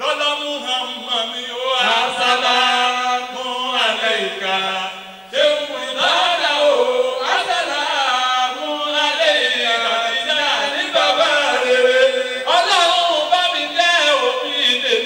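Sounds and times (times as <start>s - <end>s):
man chanting through microphone: 0.0s - 15.0s.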